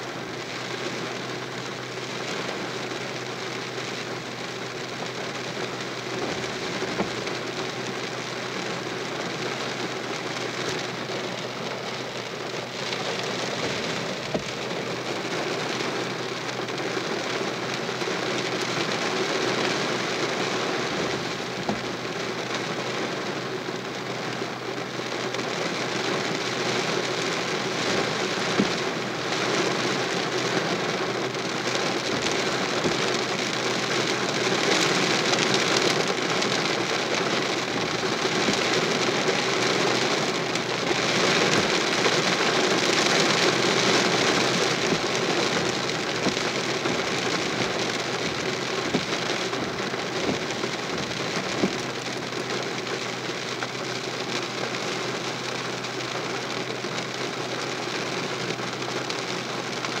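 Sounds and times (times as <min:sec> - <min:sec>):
heavy rain splashing on ground: 0:00.0 - 1:00.0.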